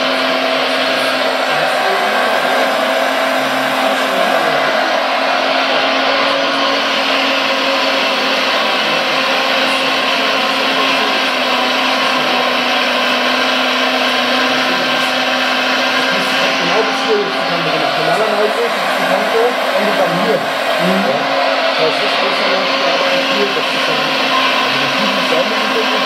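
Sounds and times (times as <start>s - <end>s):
imitation engine sound: 0.0s - 26.0s
model drive whir: 0.0s - 26.0s.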